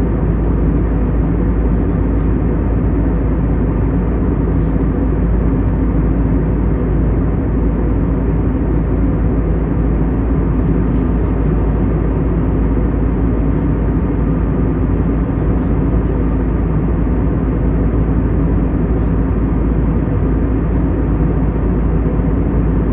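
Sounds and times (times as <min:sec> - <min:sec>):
airliner cabin engine rumble: 0:00.0 - 0:22.9
faint hum: 0:00.0 - 0:22.9.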